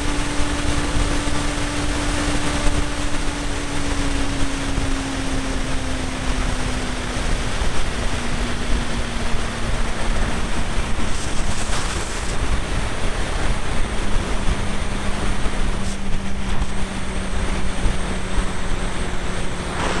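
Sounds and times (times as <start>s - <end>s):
motorcycle engine drone: 0.0s - 20.0s
wind rush on microphone: 0.0s - 20.0s.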